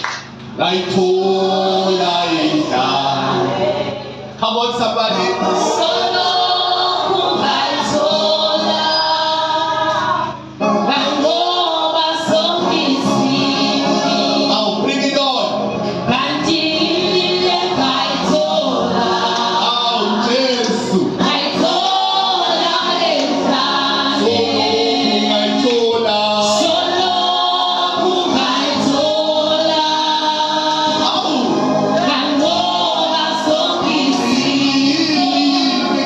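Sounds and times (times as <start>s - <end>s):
choir singing gospel music: 0.0s - 36.0s
musical accompaniment: 0.0s - 36.0s.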